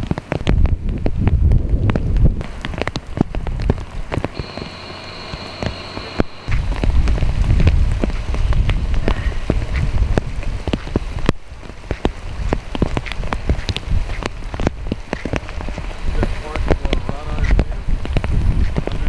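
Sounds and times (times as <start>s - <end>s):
rain pattering: 0.0s - 19.0s
sharp taps of raindrops: 0.0s - 19.0s
low rumble: 0.6s - 19.0s.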